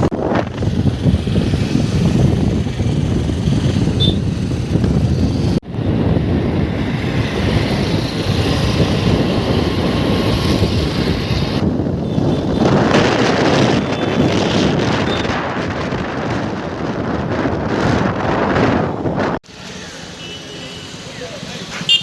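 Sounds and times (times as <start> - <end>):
wind buffeting microphone: 0.0 - 19.5
motorcycle engine and road noise: 0.0 - 22.0.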